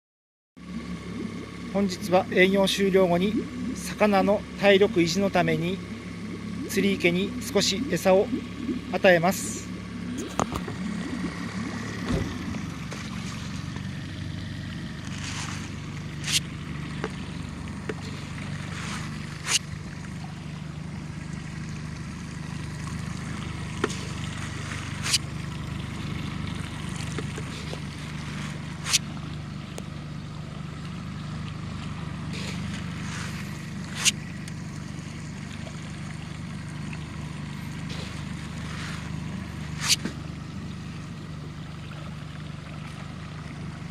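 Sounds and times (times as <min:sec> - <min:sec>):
small boat motor running: 0:00.6 - 0:43.9
water splashing: 0:00.6 - 0:43.9.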